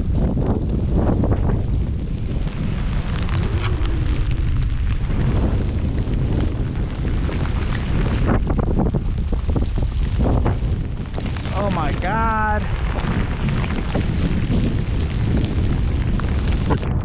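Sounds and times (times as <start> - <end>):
rain taps: 0.0 - 17.0
storm wind buffeting microphone: 0.0 - 17.0.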